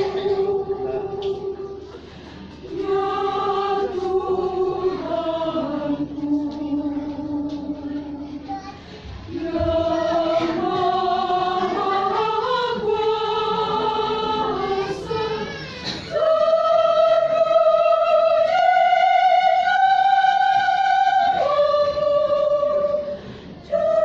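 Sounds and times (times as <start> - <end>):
church choir singing: 0.0 - 8.4, 9.1 - 24.0.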